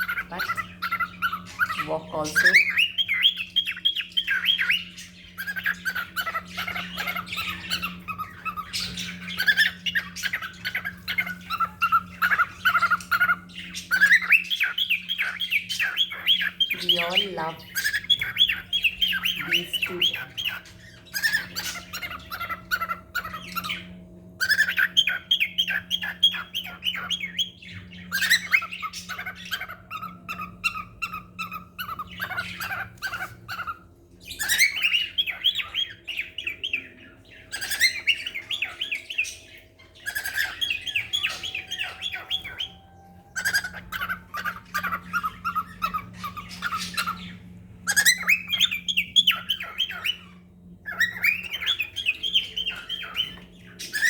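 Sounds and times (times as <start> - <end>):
cockatiels chirping: 0.0 - 54.0
steady low hum: 0.0 - 54.0.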